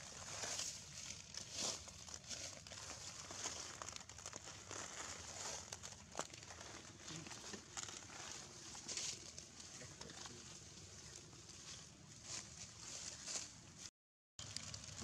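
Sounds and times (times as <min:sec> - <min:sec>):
rustling in dry leaves: 0:00.0 - 0:15.0.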